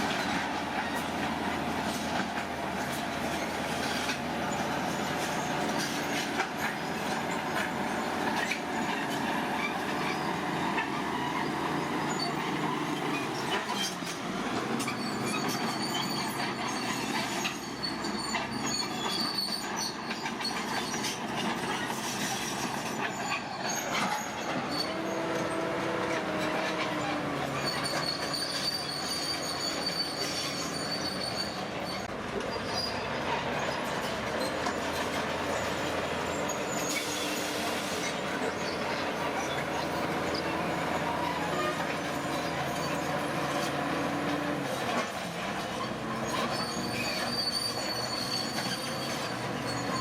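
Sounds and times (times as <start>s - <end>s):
bulldozer engine: 0.0s - 50.0s
crawler tracks squealing and clanking: 0.0s - 50.0s.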